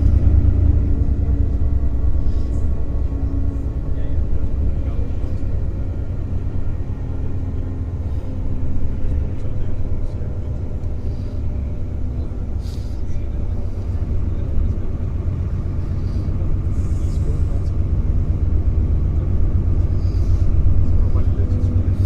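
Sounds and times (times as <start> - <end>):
bus engine and tyres rumbling: 0.0 - 22.0.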